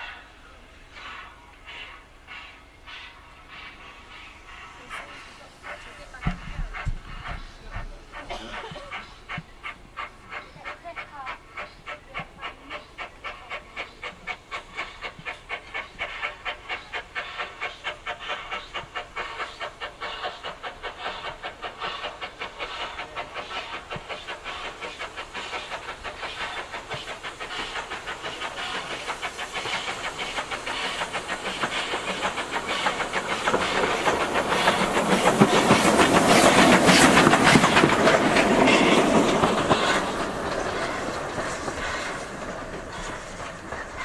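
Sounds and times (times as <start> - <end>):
train wheels clickety-clack: 0.0 - 44.0.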